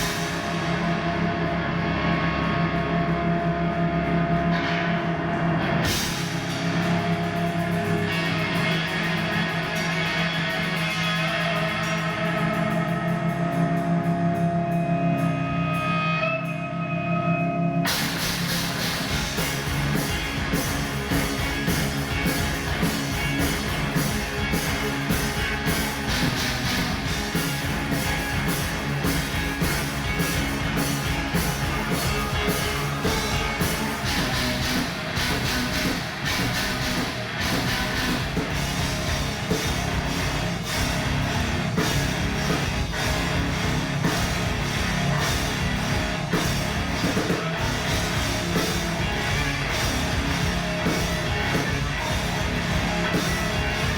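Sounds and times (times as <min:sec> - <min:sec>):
electric guitar chords: 0:00.0 - 0:53.9
rock band with drums: 0:00.0 - 0:53.9.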